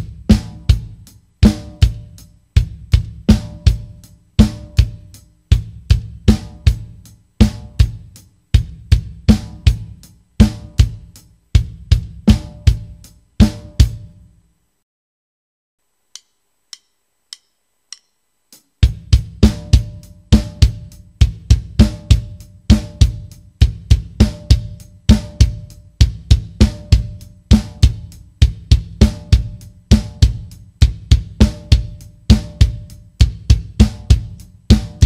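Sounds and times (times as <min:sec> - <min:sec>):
acoustic drum kit groove: 0:00.0 - 0:14.3, 0:16.1 - 0:35.0.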